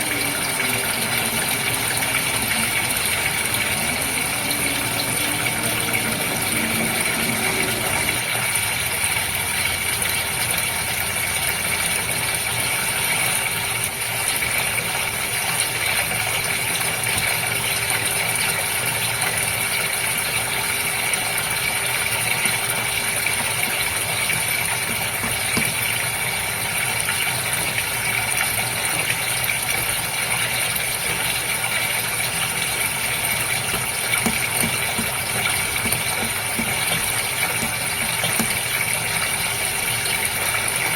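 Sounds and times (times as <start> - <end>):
aquarium water bubbling: 0.0 - 40.9
constant mechanical hum: 0.0 - 40.9.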